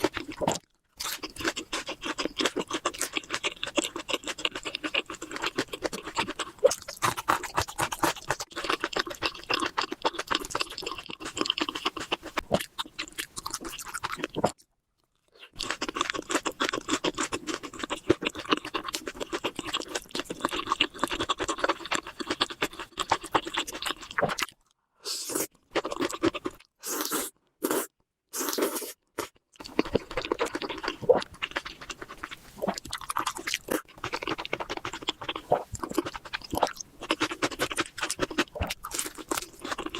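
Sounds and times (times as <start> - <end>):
chewing and crunching: 0.0 - 27.8, 28.4 - 39.9.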